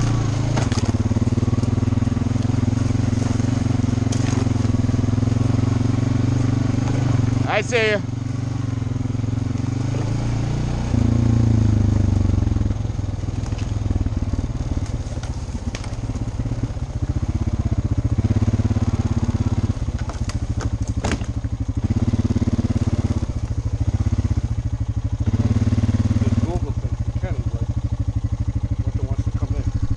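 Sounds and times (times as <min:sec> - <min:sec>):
quad engine revving: 0:00.0 - 0:29.9.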